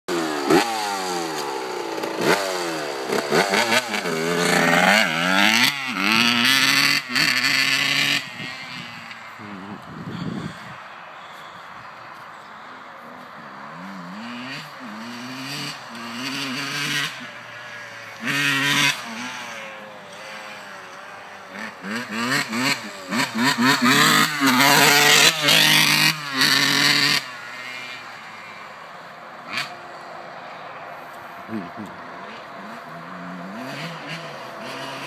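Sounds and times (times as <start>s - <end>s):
two-stroke engine idling and revving: 0.1s - 10.8s, 13.4s - 29.9s, 31.3s - 35.0s.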